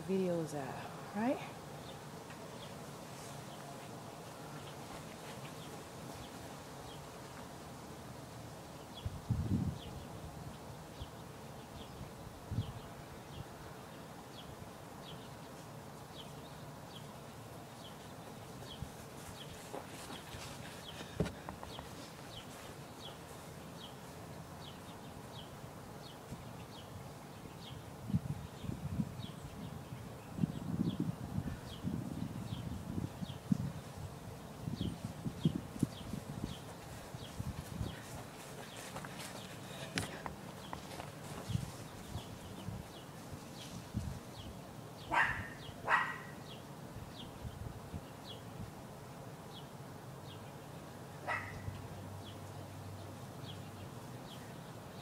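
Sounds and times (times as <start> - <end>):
soft background noise: 0.0 - 55.0.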